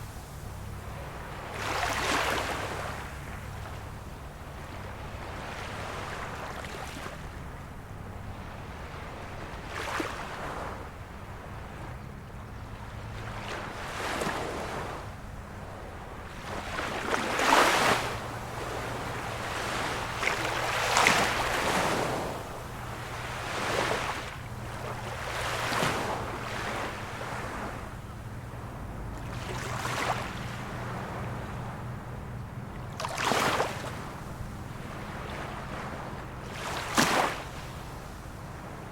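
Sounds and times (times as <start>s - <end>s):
small sea waves washing in: 0.0s - 38.9s.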